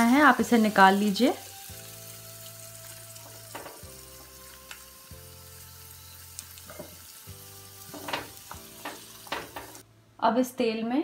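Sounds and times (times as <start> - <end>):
food sizzling in hot oil: 0.0 - 9.8.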